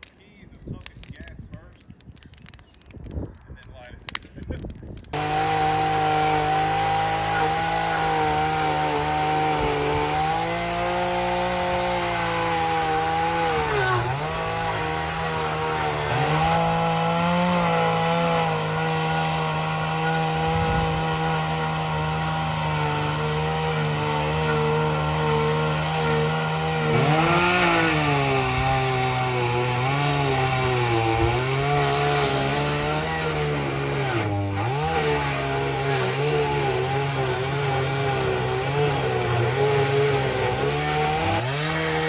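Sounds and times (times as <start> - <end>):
chainsaw cutting wood: 4.1 - 42.0.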